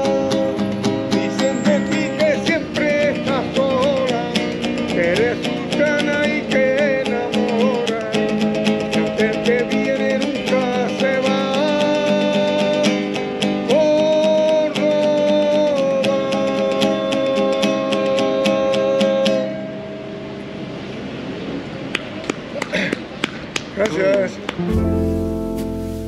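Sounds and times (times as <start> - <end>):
acoustic guitar: 0.0 - 20.6, 24.3 - 26.0.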